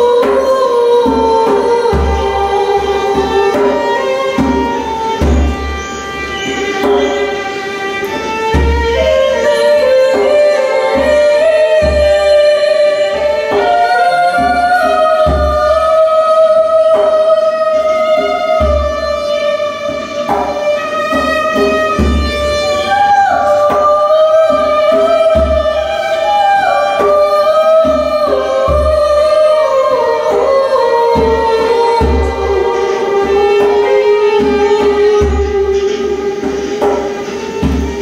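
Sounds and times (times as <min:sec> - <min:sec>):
violin slow melody: 0:00.0 - 0:38.0.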